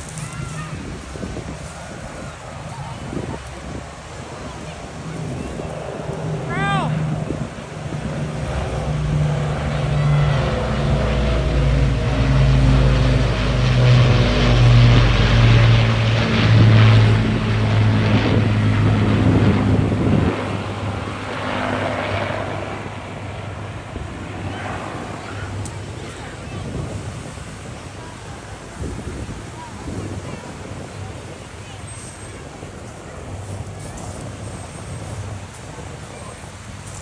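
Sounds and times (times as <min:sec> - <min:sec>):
propeller aircraft engines droning: 0:00.0 - 0:37.0.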